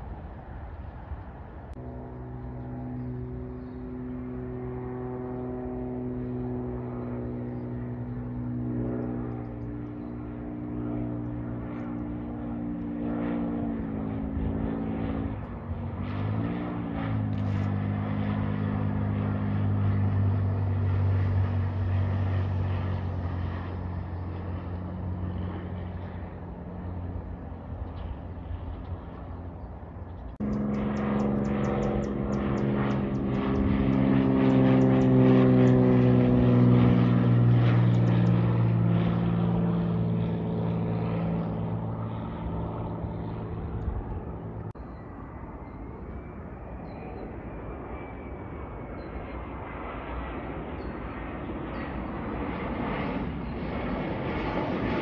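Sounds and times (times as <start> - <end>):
propeller plane droning overhead: 0.0 - 55.0.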